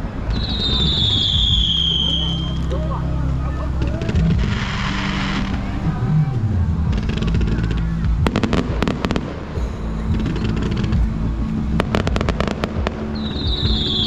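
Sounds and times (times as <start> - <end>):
fireworks crackling: 0.0 - 14.0
low rumble: 0.0 - 14.0.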